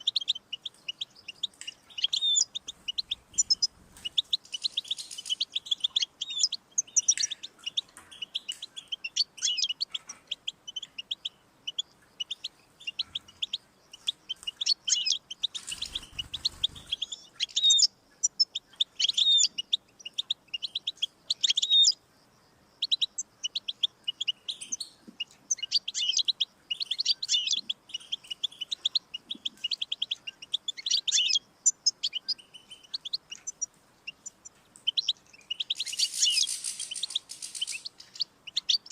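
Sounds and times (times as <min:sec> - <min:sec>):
goldfinch singing: 0:00.0 - 0:22.0, 0:22.7 - 0:38.9.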